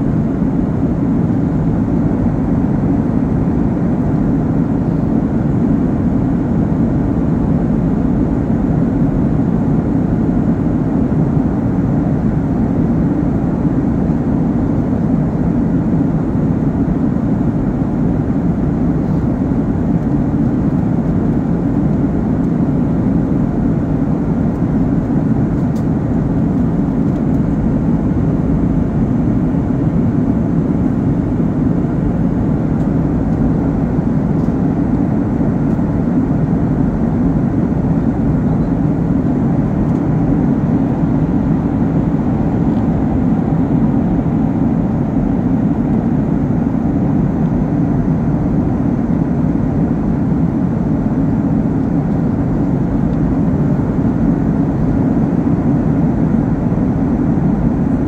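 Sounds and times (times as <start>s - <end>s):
jet engines droning: 0.0s - 58.0s.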